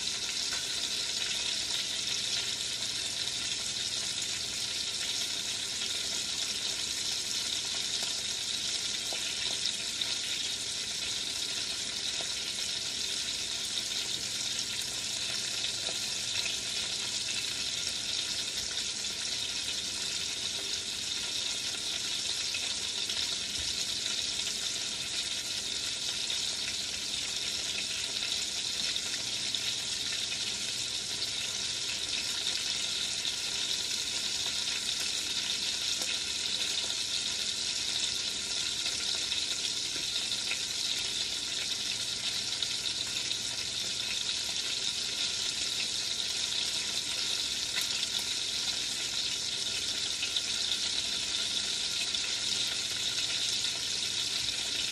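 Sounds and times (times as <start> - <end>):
chicken sizzling in a pot: 0.0 - 54.9.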